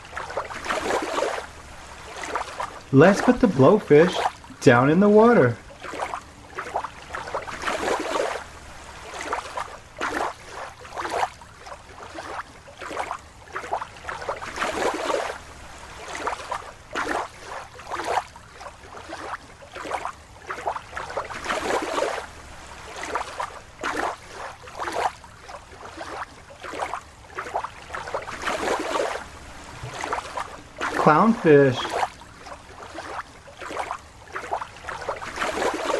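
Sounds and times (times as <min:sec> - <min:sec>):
water sloshing and splashing: 0:00.0 - 0:35.9.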